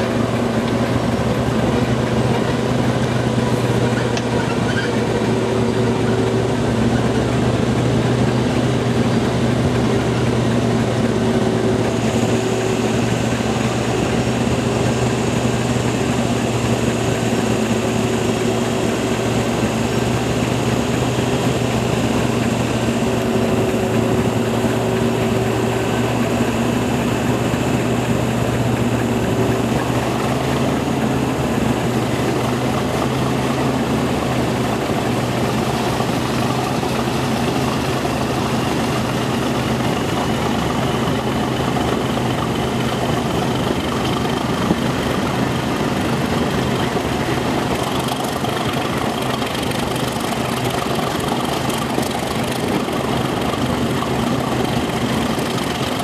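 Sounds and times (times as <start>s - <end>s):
diesel locomotive engine working hard: 0.0s - 56.0s
high-pitched engine whine: 0.0s - 56.0s.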